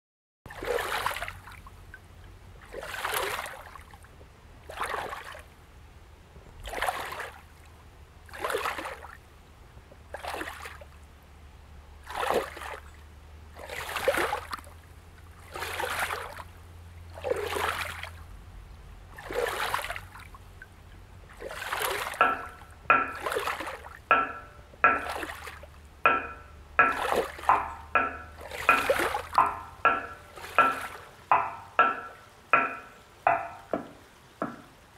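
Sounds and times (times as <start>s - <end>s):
river water splashing: 0.5s - 34.9s.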